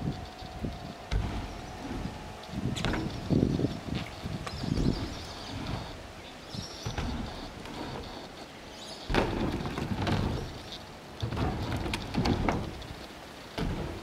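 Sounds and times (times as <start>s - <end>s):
bike tyres rolling on hollow ramps: 0.0s - 14.0s
heavy bike landings: 0.0s - 14.0s.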